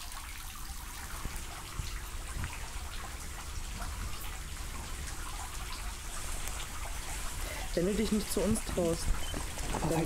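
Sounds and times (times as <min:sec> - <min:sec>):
water dripping: 0:00.0 - 0:10.0.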